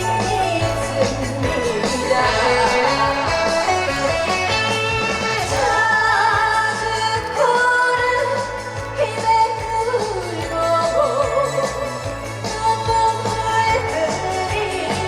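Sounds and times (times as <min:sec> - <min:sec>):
backing music with steady beat: 0:00.0 - 0:15.0
woman singing with vibrato: 0:00.0 - 0:15.0.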